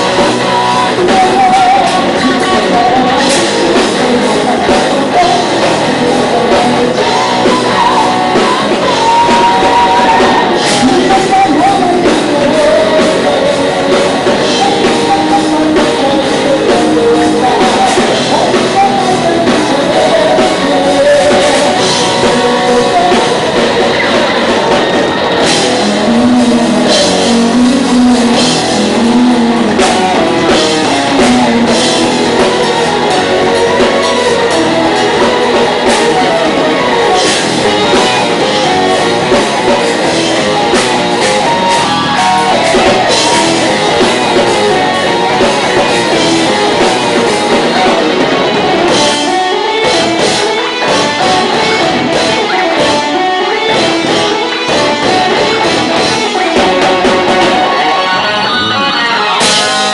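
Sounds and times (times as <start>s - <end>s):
distorted guitars: 0.0s - 59.9s
drum kit: 0.0s - 59.9s
melodic line: 0.0s - 59.9s.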